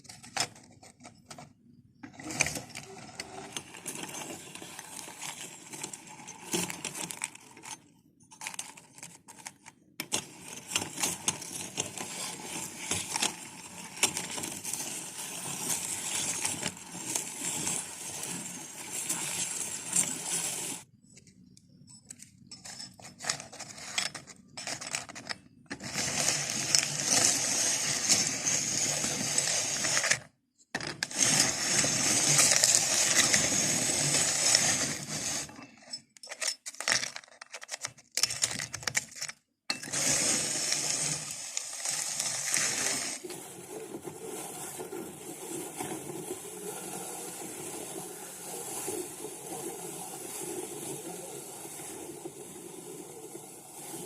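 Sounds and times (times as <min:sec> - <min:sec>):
meat grinder crunching biscuits: 0:02.1 - 0:20.9, 0:24.4 - 0:35.6, 0:39.7 - 0:54.0.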